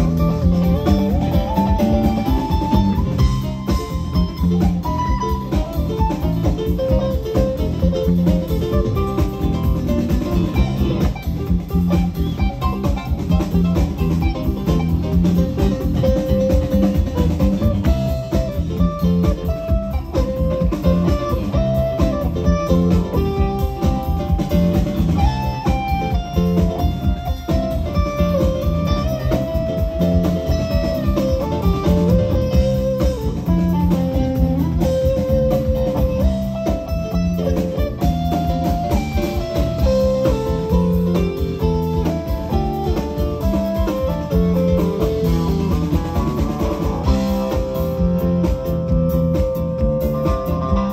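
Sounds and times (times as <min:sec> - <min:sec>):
bass and drums beat: 0:00.0 - 0:50.9
guitar melody: 0:00.0 - 0:50.9.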